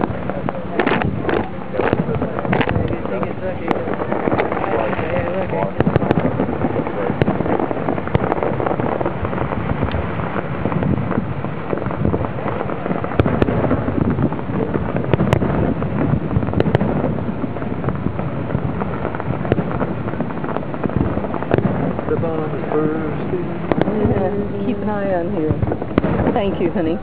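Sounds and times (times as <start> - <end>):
fireworks bangs and crackling: 0.0 - 27.0
sharp firework cracks: 0.0 - 27.0.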